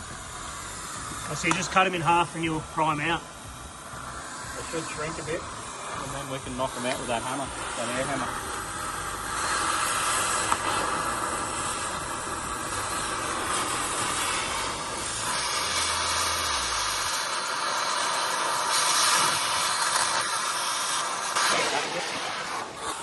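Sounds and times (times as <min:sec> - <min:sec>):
cutting torch hissing: 0:00.0 - 0:23.0.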